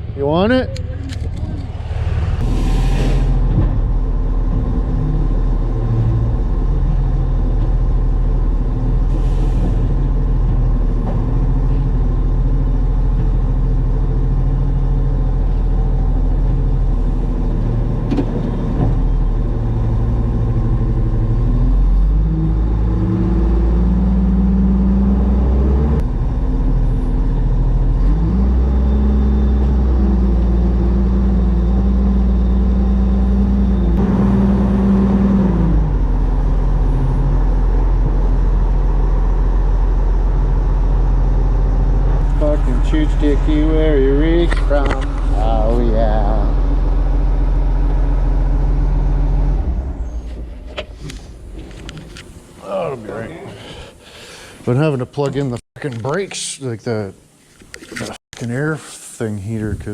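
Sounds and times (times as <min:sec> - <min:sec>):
vehicle engine running: 0:03.2 - 0:52.9.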